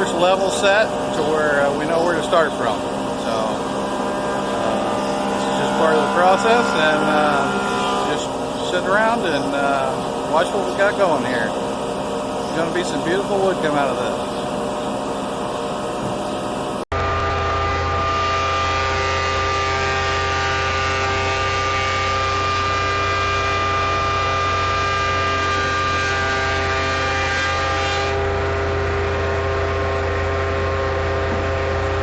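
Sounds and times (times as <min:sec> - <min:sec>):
planer motor hum and whine: 0:00.0 - 0:32.0.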